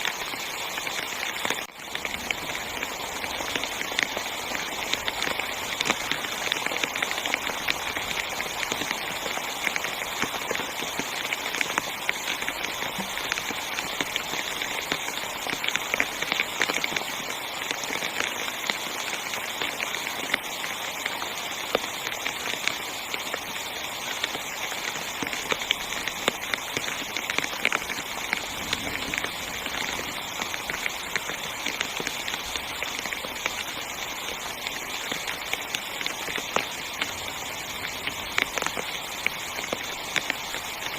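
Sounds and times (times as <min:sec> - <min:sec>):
heavy rain on tent fabric: 0:00.0 - 0:40.9.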